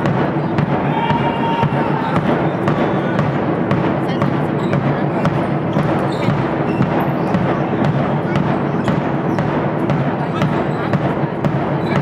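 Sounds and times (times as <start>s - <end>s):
ball bouncing on floor: 0.0s - 12.0s.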